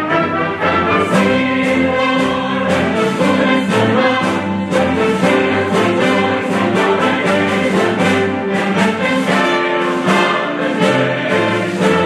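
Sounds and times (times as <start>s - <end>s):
concert band playing: 0.0s - 12.0s.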